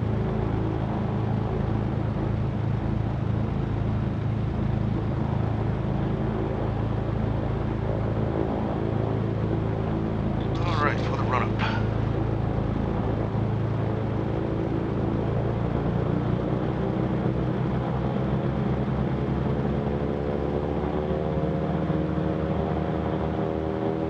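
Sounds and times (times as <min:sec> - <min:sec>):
piston aircraft engines droning: 0:00.0 - 0:24.0.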